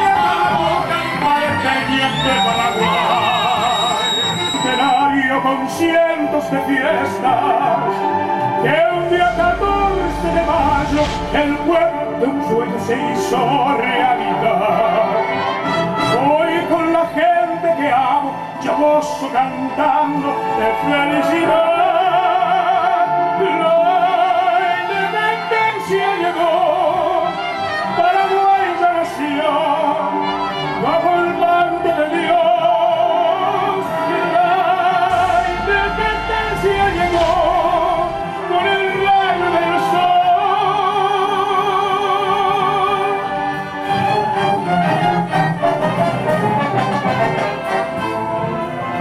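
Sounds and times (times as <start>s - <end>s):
choir singing: 0.0s - 17.2s, 18.6s - 48.2s
operatic male voice singing: 0.0s - 49.0s
symphony orchestra: 0.0s - 49.0s.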